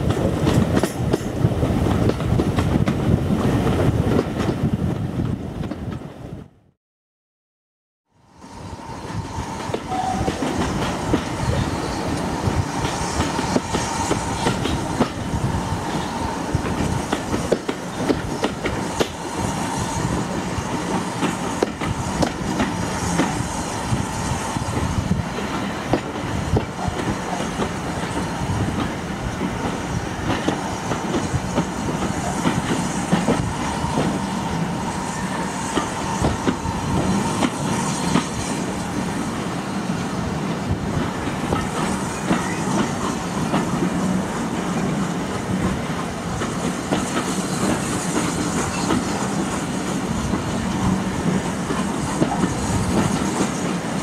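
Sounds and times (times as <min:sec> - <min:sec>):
train coaches rumbling: 0:00.0 - 0:06.4, 0:08.3 - 0:54.0.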